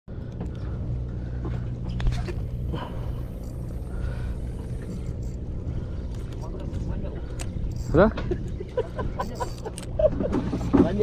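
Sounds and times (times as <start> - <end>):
boat engine humming: 0.1 - 11.0.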